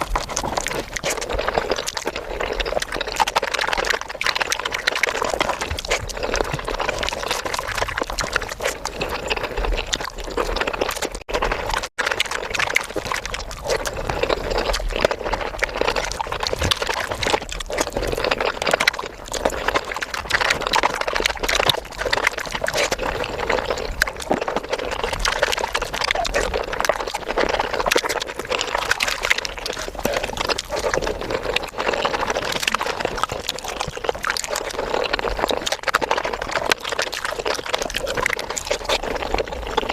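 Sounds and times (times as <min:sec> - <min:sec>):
rapid wet chewing: 0:00.0 - 0:39.9.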